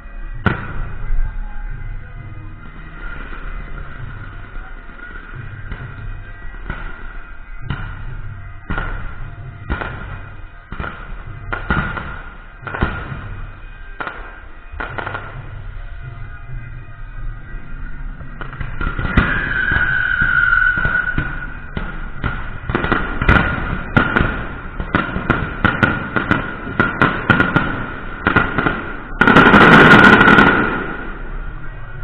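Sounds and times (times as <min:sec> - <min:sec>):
dense crackling burst: 0:00.0 - 0:32.0
firecrackers banging: 0:00.0 - 0:32.0.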